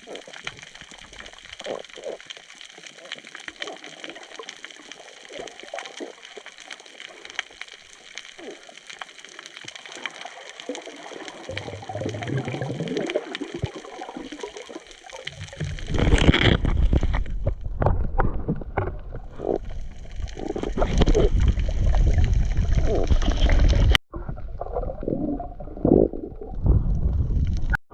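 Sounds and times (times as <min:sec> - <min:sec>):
faint underwater crackling: 0:00.0 - 0:27.8
water rushing and sloshing: 0:00.0 - 0:27.8.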